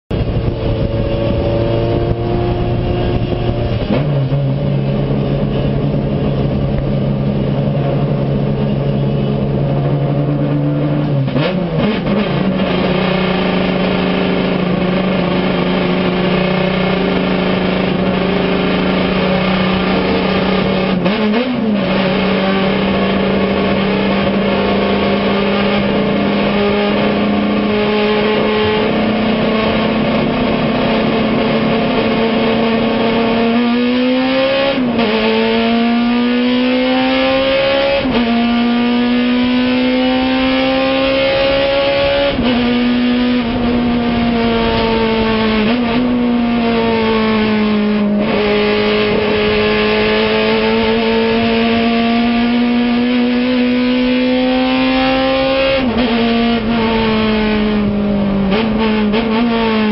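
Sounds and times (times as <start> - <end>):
race car engine under load: 0.1 - 59.9.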